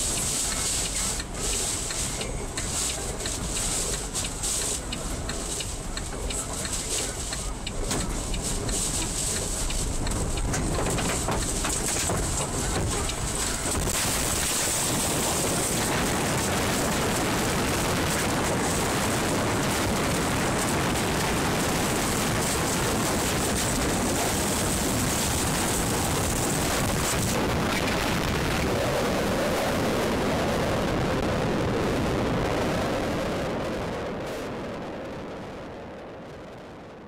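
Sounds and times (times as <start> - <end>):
wind and rain rushing: 0.0 - 37.0.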